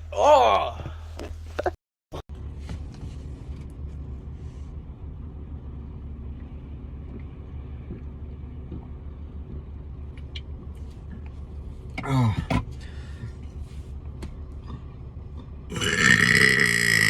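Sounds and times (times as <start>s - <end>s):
steady low rumble: 2.3s - 17.0s.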